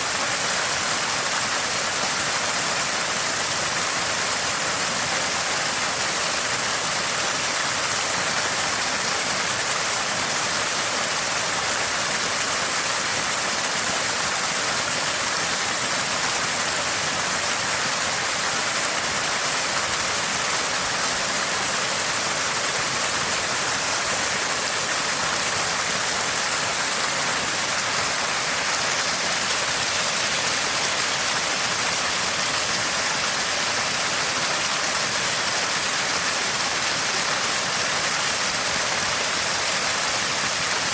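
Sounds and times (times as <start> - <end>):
spring water gushing: 0.0 - 40.9.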